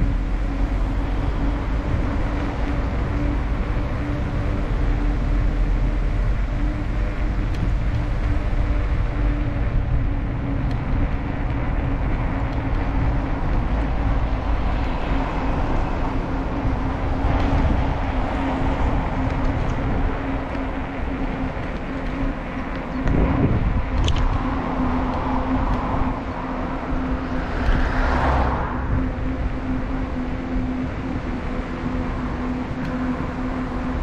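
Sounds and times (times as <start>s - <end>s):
steady hum: 0.0s - 34.0s
wind and tyres on microphone: 0.0s - 34.0s.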